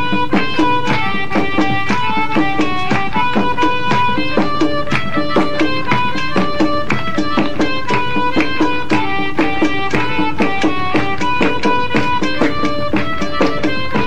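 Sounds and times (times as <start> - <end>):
instrumental music with struck notes: 0.0 - 14.0.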